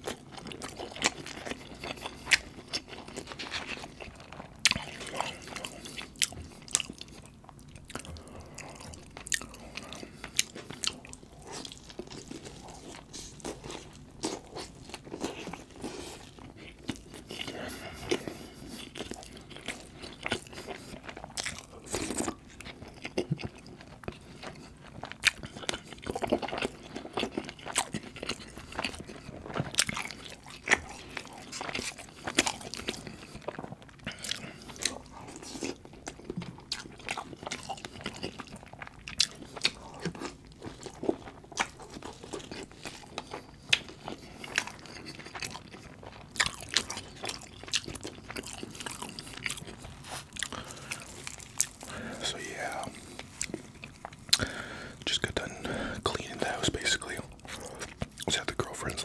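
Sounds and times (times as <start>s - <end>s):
person chewing with mouth clicks: 0.0s - 59.0s.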